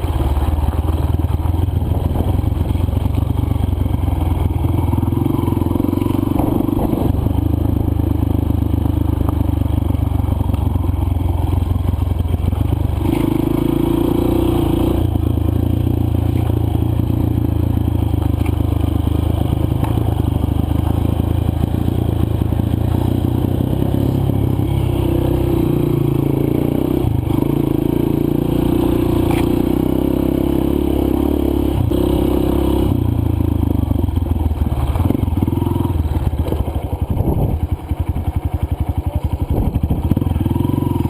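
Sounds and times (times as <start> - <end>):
dirt bike engine: 0.0 - 41.0.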